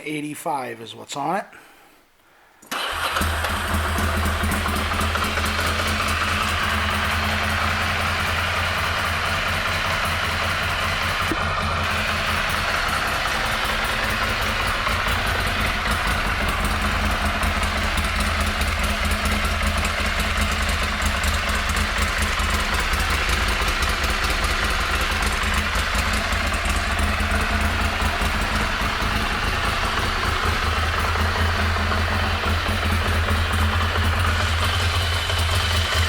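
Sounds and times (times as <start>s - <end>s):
motorcycle engine idling: 2.8s - 36.0s.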